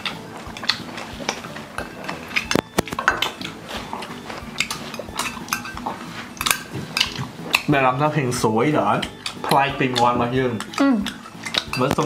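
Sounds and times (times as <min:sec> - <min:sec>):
chopsticks clinking on metal bowls: 0:00.0 - 0:12.0.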